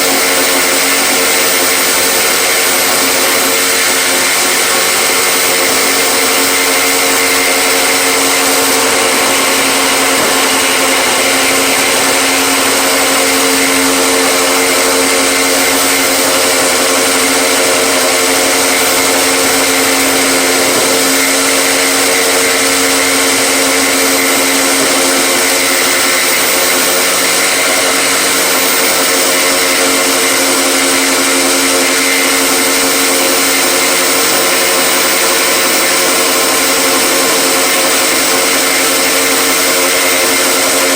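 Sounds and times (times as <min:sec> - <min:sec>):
power tool motor running: 0:00.0 - 0:40.9.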